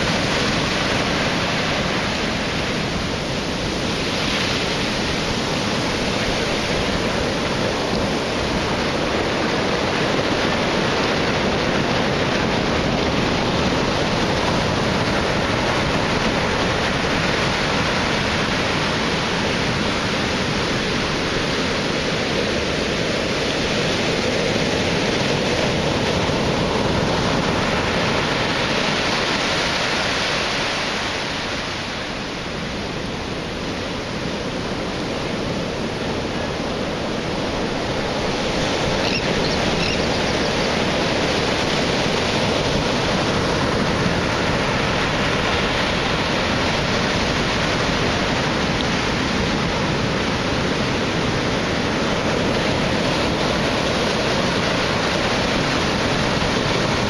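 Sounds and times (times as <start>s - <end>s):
storm surf breaking on pilings: 0.0s - 57.0s.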